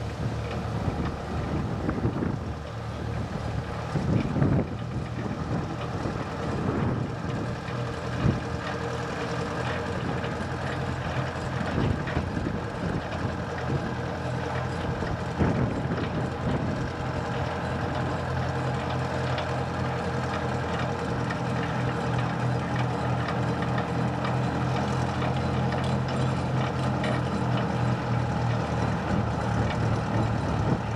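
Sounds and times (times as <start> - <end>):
locomotive engine running: 0.0 - 30.9.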